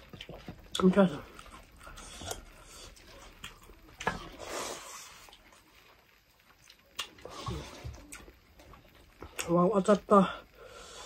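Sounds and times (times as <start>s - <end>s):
chewing and wet mouth noises: 0.0s - 9.6s.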